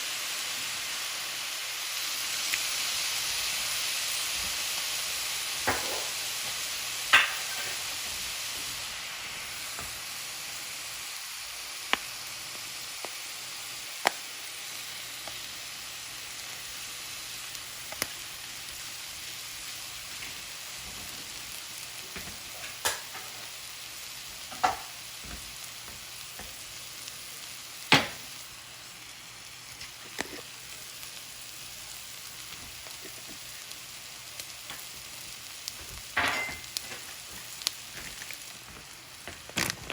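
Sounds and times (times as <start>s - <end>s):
fried rice sizzling in a pan: 0.0s - 39.9s.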